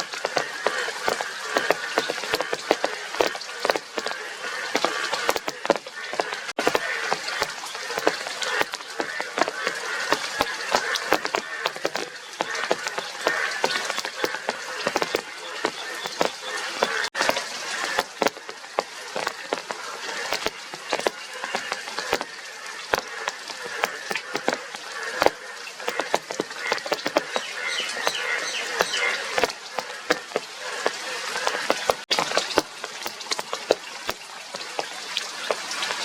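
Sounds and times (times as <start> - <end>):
sharp clicks and pops: 0.0 - 22.3, 22.9 - 34.9
chorus of frogs calling: 0.0 - 36.0.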